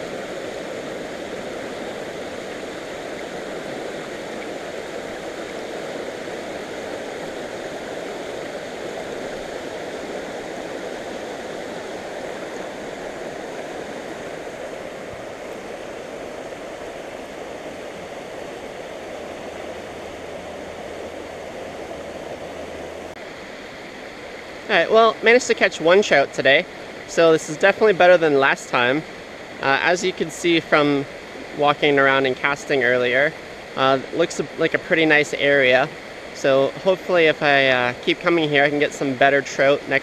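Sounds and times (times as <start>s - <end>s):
creek water running over rocks: 0.0s - 40.0s.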